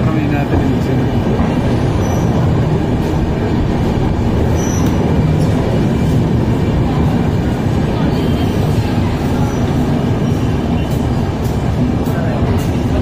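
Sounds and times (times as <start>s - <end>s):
train coaches rumbling on track: 0.0s - 13.0s.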